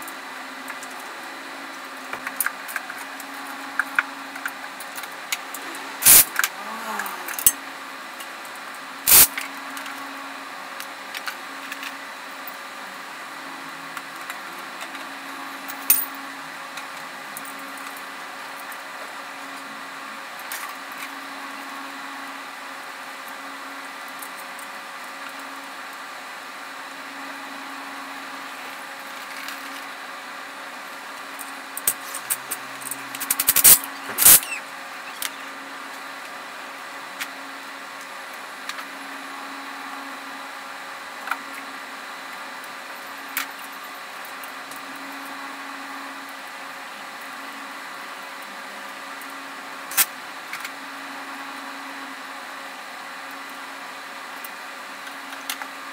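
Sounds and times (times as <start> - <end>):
workshop hum: 0.0 - 55.9.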